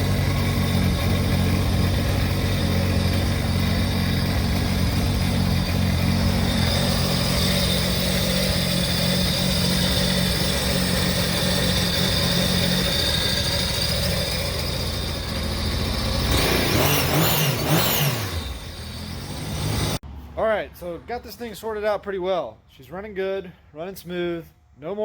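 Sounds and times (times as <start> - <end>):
boat engine idling and revving: 0.0 - 20.0.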